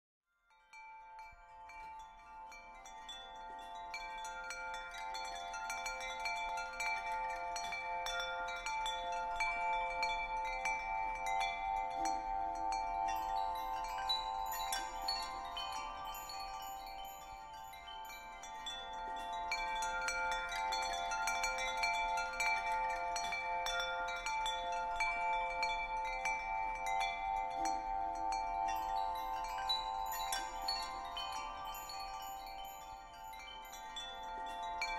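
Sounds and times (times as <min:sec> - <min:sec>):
tinkling chime strikes: 0:00.8 - 0:34.9.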